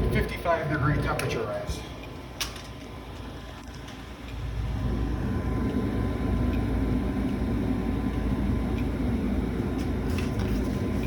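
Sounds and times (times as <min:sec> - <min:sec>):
gas furnace low rumble: 0:00.0 - 0:11.0.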